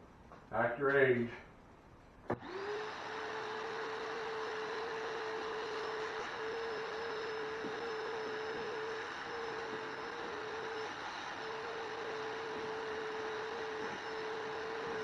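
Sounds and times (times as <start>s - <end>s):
small electric motor whining: 2.3s - 15.0s.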